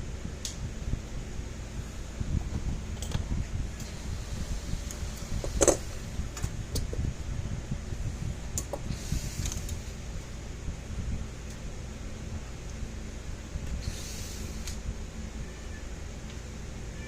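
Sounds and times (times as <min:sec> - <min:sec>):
low fan hum: 0:00.0 - 0:17.0.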